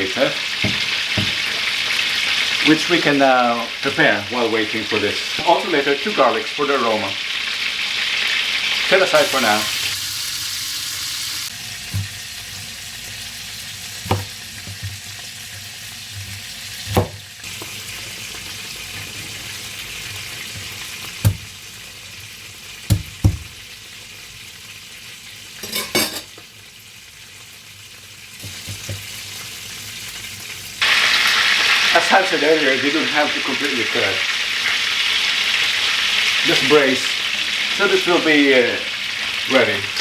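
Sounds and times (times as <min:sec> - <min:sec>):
chicken sizzling in a pan: 0:00.0 - 0:40.0.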